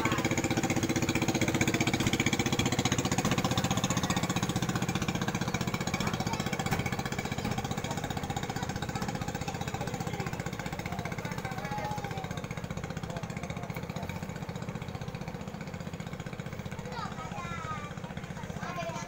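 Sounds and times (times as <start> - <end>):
small boat motor putting: 0.0 - 19.0.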